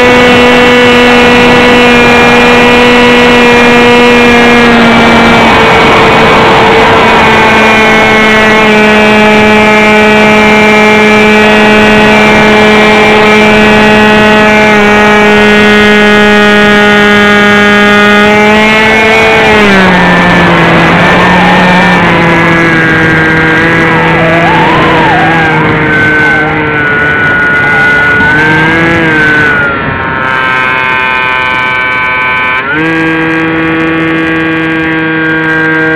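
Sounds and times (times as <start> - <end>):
model airplane motor drone: 0.0 - 35.9.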